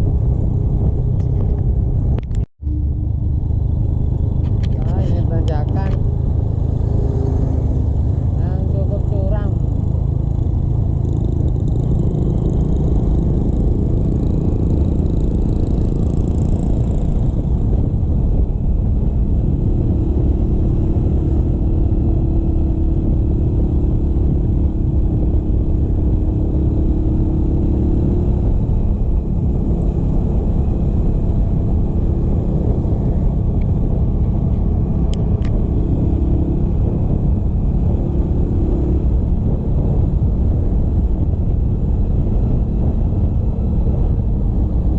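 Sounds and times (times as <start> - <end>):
motorcycle engine running: 0.0 - 44.9
wind and road noise: 0.0 - 44.9.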